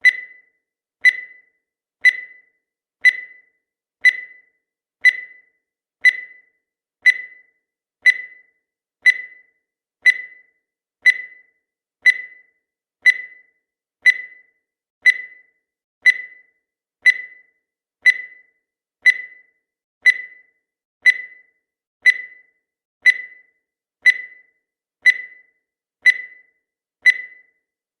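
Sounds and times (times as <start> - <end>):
countdown timer beeping: 0.0 - 27.6.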